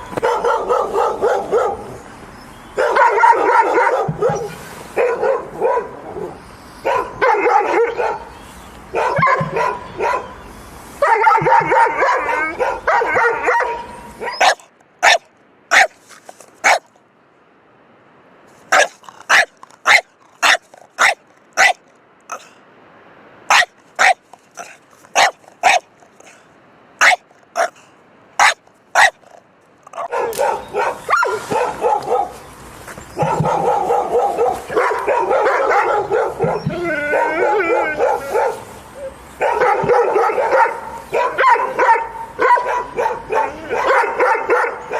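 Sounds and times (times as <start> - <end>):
dog barking: 0.1 - 2.0, 2.8 - 8.3, 8.9 - 10.4, 11.0 - 16.0, 16.6 - 16.9, 18.7 - 22.5, 23.5 - 26.4, 27.0 - 27.8, 28.4 - 32.4, 33.2 - 44.9.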